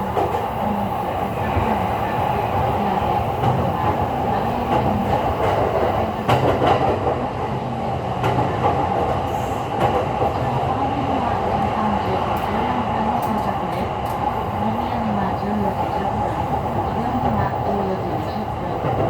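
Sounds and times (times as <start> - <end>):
train rolling rumble: 0.0 - 19.0.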